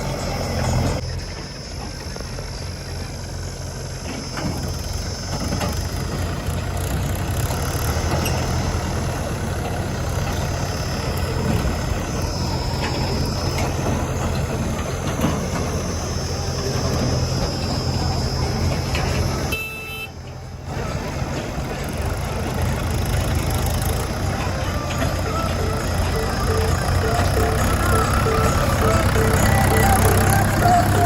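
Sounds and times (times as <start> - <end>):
diesel engines of heavy machinery: 0.0 - 31.0.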